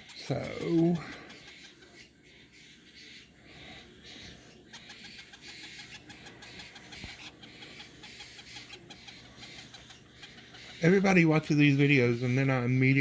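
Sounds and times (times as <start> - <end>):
parrots chirping: 0.0 - 13.0.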